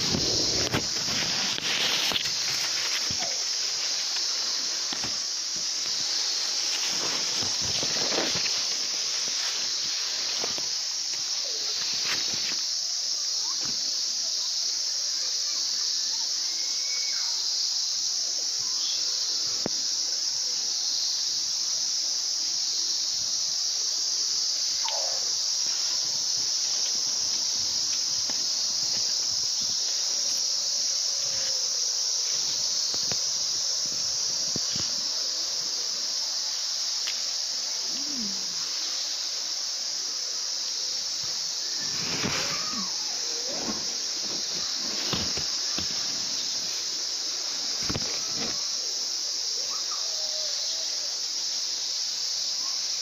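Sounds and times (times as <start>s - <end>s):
leaves rustling: 0.0s - 13.9s, 22.2s - 51.0s
insects chirping chorus: 0.0s - 53.0s.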